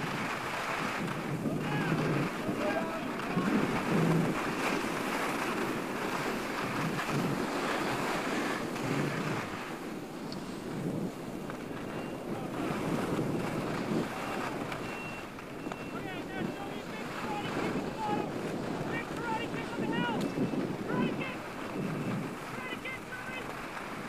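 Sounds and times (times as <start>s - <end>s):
skis scraping over snow: 0.0s - 24.0s
wind rushing over microphone: 0.0s - 24.0s.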